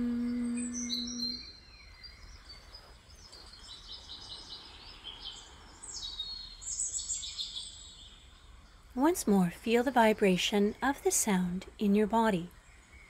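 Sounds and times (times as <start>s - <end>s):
faint outdoor background noise: 0.0s - 13.0s
songbirds chirping: 0.0s - 13.0s.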